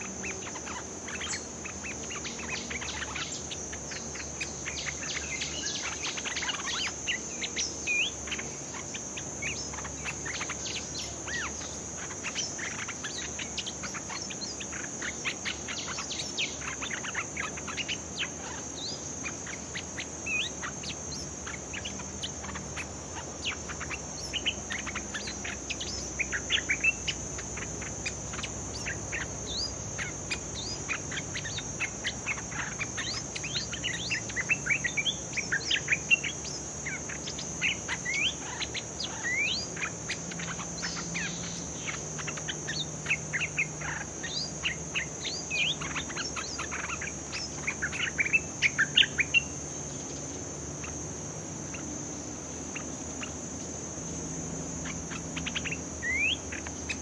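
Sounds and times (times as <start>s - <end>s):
birds chirping: 0.0s - 57.0s
high drone of insects: 0.0s - 57.0s.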